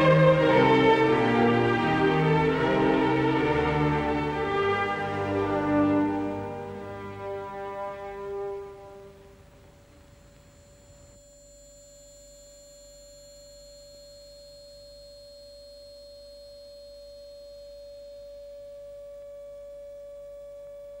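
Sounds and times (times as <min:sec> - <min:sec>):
music: 0:00.0 - 0:09.6, 0:10.3 - 0:21.0
steady electronic tone: 0:00.0 - 0:21.0.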